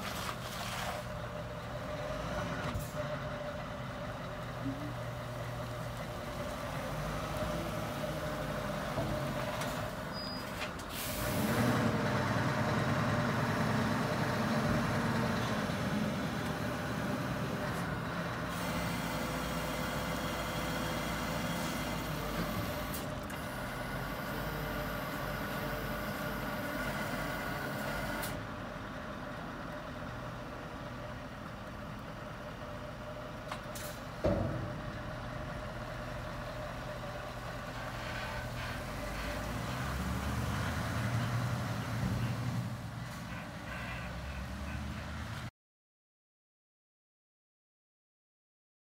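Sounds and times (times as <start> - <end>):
diesel truck engine running: 0.0 - 45.4.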